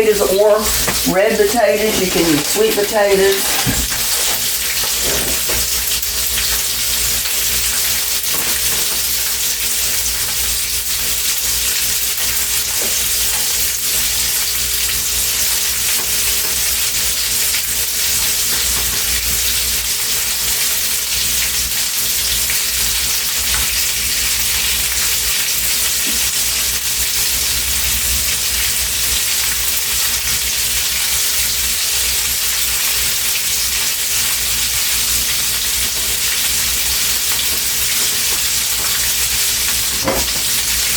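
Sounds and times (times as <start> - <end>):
food sizzling in a pan: 0.2 - 40.9.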